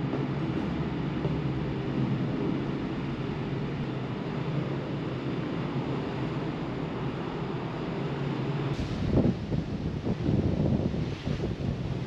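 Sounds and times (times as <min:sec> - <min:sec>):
wind across deck: 0:00.0 - 0:12.0.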